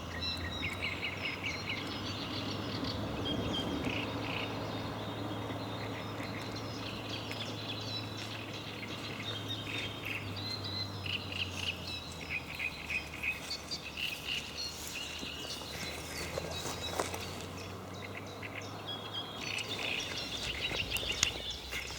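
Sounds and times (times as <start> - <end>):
birds chirping and singing: 0.0 - 21.9.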